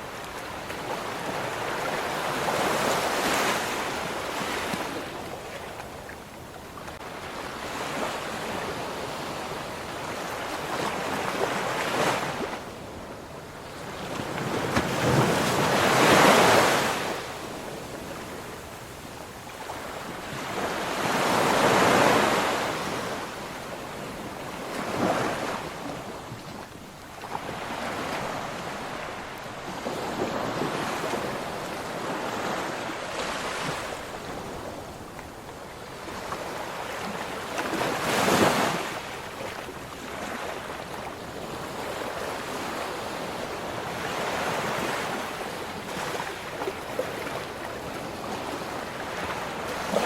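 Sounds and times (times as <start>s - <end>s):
ocean waves breaking on shore: 0.0s - 50.0s.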